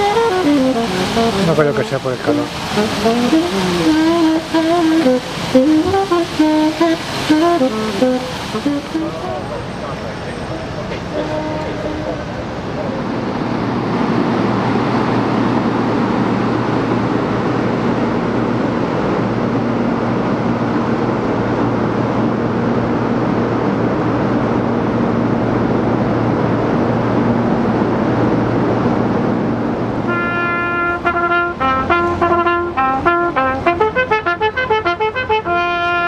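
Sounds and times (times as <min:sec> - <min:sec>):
vehicle running noise: 0:00.0 - 0:36.0.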